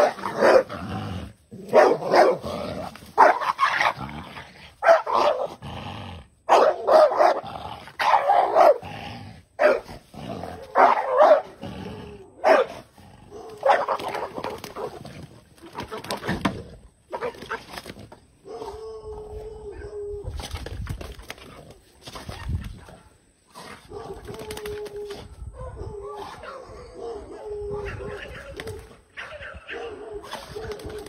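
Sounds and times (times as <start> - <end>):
dog barking and growling: 0.0 - 31.0.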